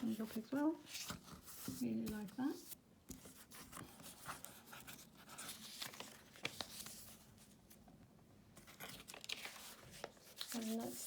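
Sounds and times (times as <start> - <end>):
paper pages rustling: 0.0 - 7.8, 8.6 - 11.0.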